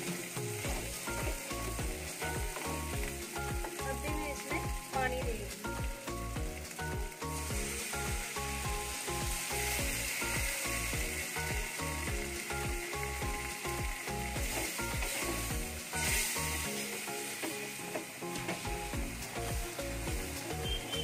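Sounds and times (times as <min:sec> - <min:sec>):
background music with beat: 0:00.0 - 0:21.0
curry sizzling: 0:00.0 - 0:21.0.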